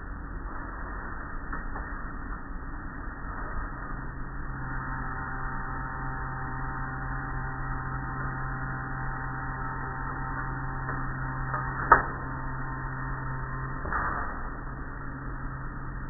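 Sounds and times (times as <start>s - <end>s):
car wash machinery hum: 0.0s - 16.0s.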